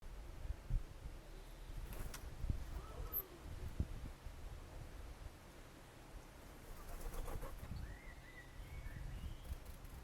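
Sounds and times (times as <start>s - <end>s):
faint outdoor background: 0.0s - 10.0s.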